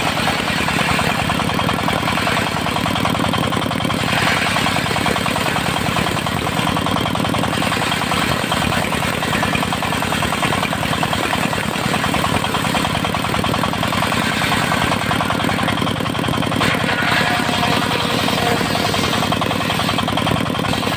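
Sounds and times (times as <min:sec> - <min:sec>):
sawmill engine running: 0:00.0 - 0:20.9.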